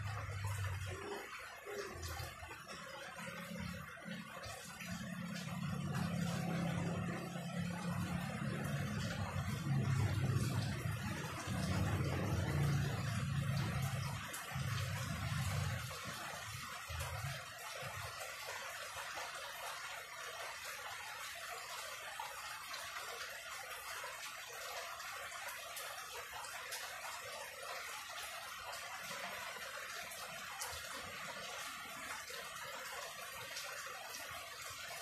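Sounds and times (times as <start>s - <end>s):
sharp drip ticks: 0.0s - 35.0s
steady rain hiss: 0.0s - 35.0s.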